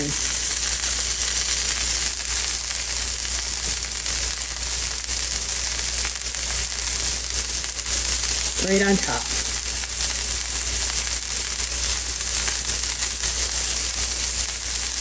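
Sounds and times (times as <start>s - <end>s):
meat and onions sizzling on griddle: 0.0s - 15.0s.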